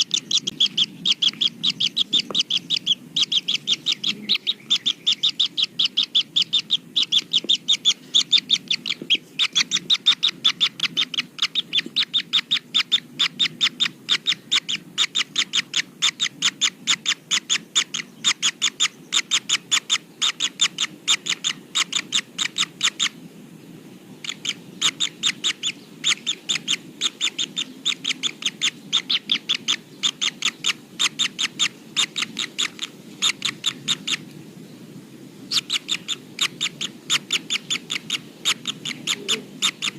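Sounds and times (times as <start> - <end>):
kingfisher high calls: 0.0 - 23.2, 24.2 - 34.2, 35.5 - 39.9.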